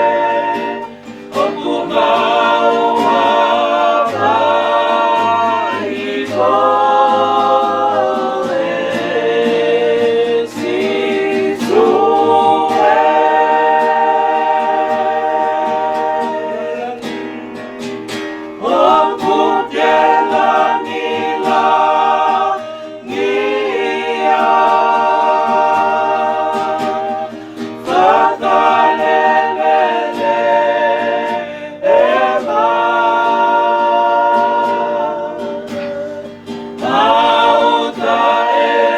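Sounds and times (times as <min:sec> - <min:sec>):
guitar: 0:00.0 - 0:38.9
voices singing a hymn: 0:00.0 - 0:38.9.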